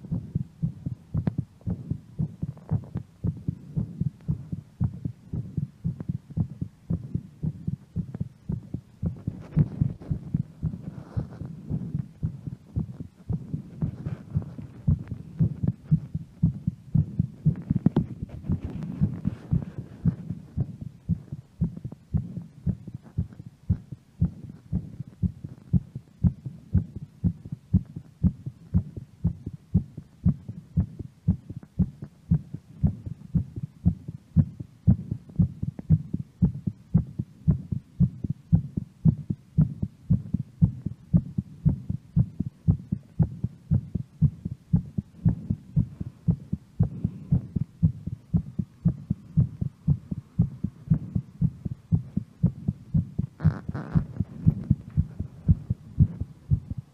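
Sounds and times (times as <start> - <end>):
heartbeat thuds: 0.0 - 56.9.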